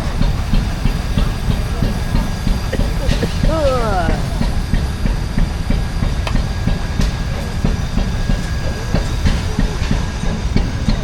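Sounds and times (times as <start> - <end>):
steam traction engine running: 0.0 - 11.0.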